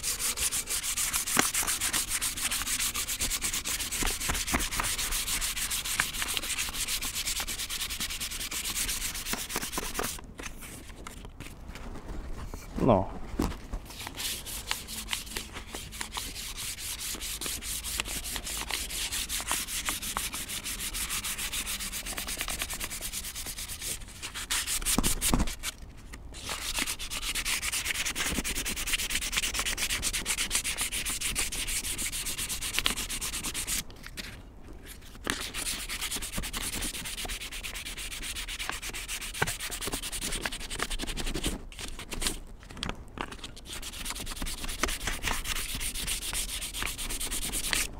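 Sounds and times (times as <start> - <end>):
sandpaper rubbing on wood: 0.0 - 10.2, 13.9 - 25.7, 26.4 - 33.8, 35.3 - 41.6, 43.6 - 47.9.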